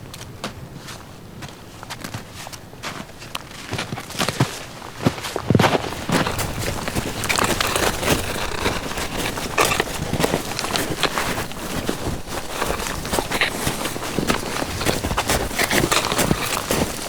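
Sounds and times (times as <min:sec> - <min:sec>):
footsteps on a trail: 0:00.1 - 0:17.0.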